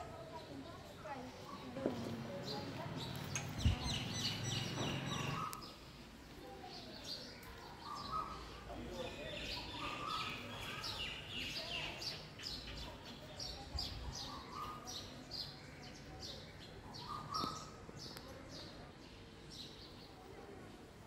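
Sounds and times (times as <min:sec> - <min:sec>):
small birds chirping: 0:00.0 - 0:20.8.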